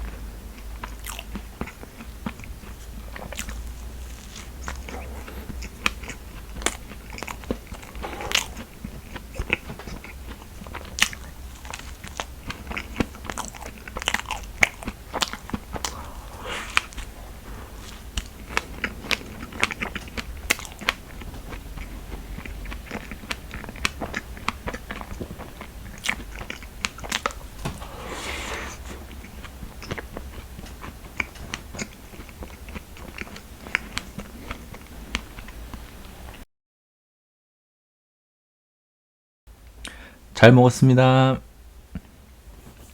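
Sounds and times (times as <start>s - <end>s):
person chewing crunchy food: 0.0s - 35.6s.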